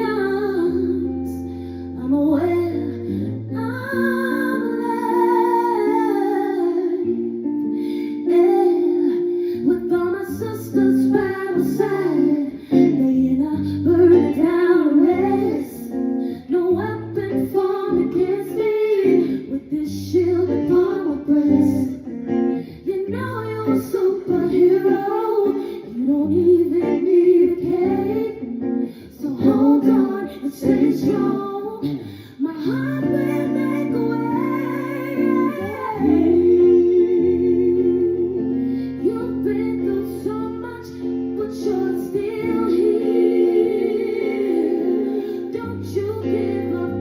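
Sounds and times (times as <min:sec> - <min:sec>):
person singing: 0:00.0 - 0:47.0.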